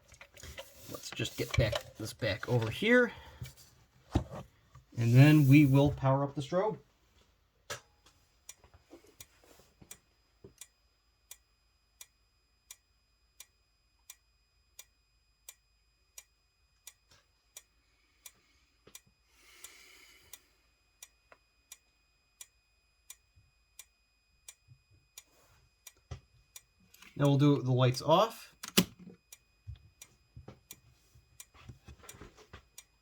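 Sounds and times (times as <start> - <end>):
faint steady high whine: 0.1 - 6.9, 7.8 - 33.0.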